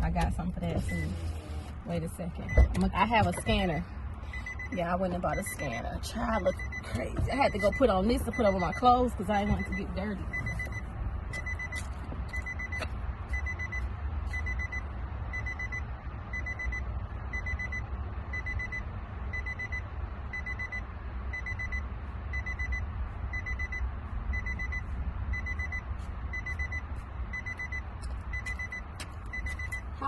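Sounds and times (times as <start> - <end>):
car warning chime beeping: 0.0 - 30.0.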